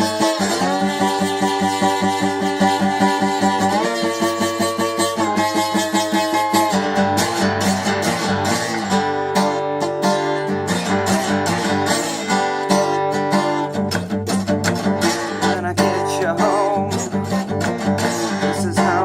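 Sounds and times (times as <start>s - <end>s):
slide acoustic guitar strumming: 0.0s - 19.0s.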